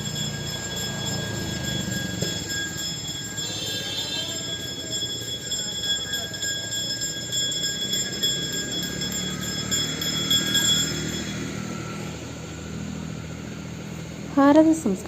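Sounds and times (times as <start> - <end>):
temple bell ringing: 0.0 - 12.7.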